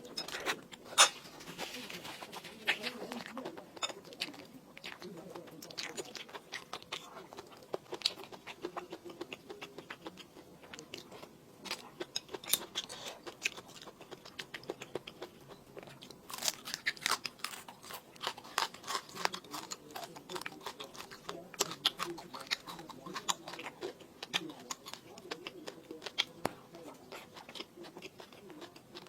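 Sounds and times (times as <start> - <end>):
person chewing crunchy food: 0.0 - 29.0.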